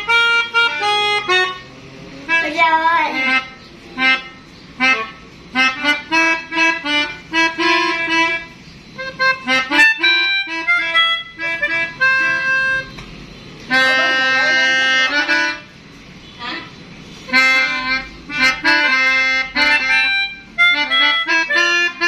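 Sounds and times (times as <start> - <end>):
melodica playing: 0.0 - 22.0.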